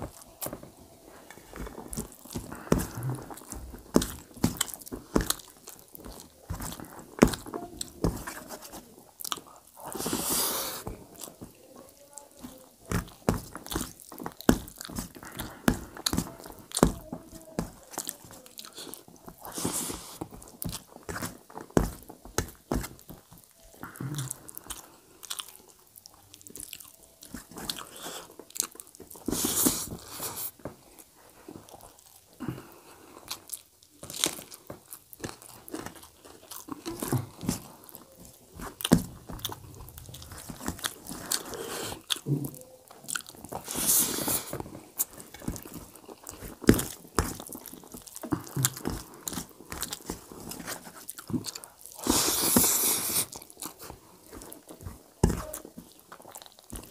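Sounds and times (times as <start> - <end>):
man chewing with wet mouth sounds: 0.0 - 56.9.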